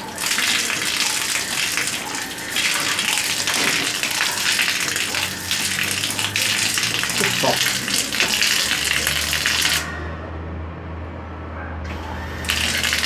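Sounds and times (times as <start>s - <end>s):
water running from tap: 0.0s - 9.9s, 11.9s - 13.0s.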